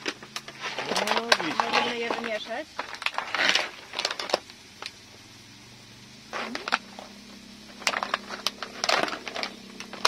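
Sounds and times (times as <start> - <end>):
packets rustling: 0.0 - 4.9, 6.3 - 10.0
steady low hum: 0.0 - 10.0.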